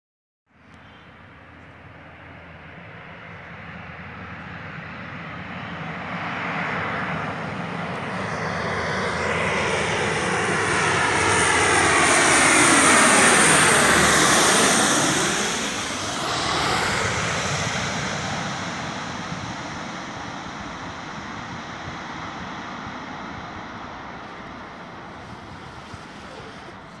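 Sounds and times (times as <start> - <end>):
turboprop aircraft engines droning: 0.5 - 27.0.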